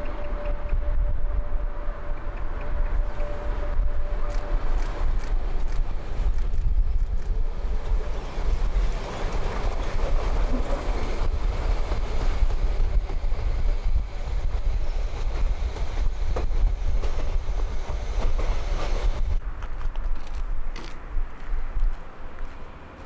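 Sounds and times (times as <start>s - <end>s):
train coaches rumbling on rails: 0.0s - 23.0s.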